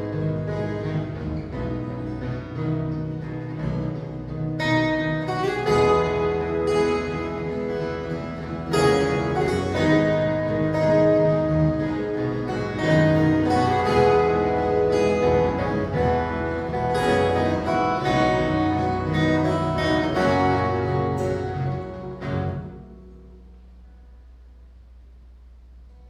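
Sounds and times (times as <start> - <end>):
faint low hum: 0.0 - 26.0
plucked guitar ensemble: 0.0 - 26.0.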